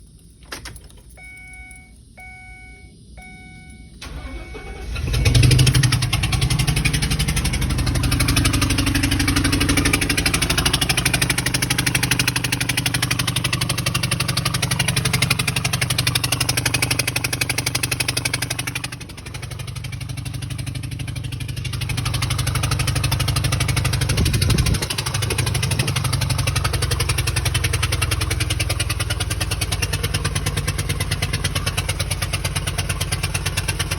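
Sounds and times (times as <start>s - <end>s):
engine cranking and starting: 3.8s - 33.9s
engine knocking: 5.0s - 33.9s.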